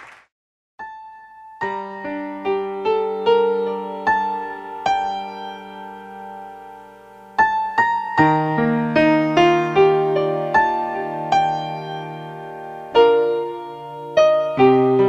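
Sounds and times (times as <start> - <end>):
slow piano music: 0.8 - 15.0.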